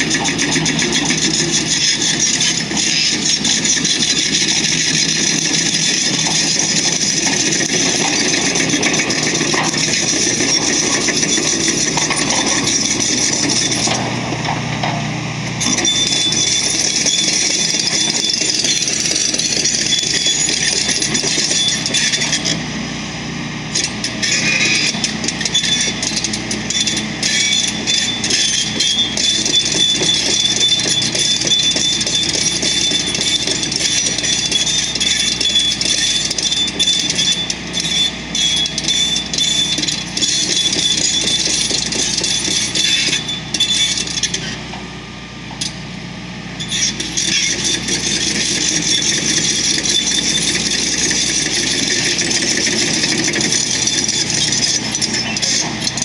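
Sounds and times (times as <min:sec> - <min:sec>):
high machine whine: 0:00.0 - 0:56.0
roadworks machinery din: 0:00.0 - 0:56.0.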